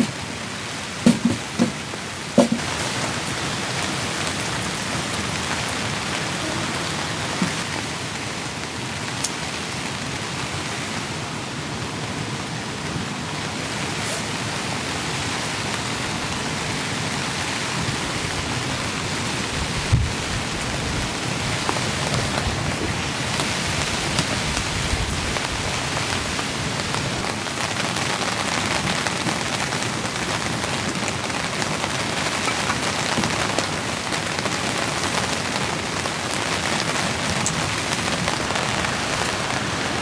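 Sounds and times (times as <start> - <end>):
heavy rain on a tent: 0.0 - 40.0.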